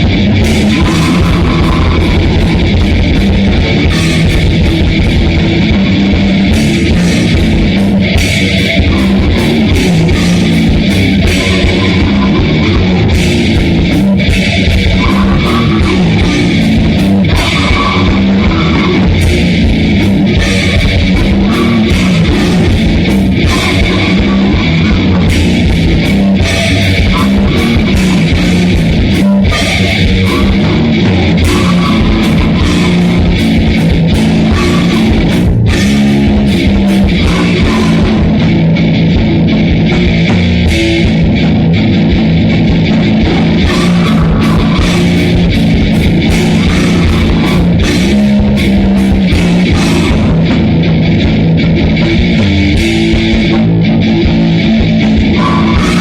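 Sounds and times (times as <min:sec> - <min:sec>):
bass guitar: 0:00.0 - 0:56.0
distorted guitars: 0:00.0 - 0:56.0
fast dense drumming: 0:00.0 - 0:56.0.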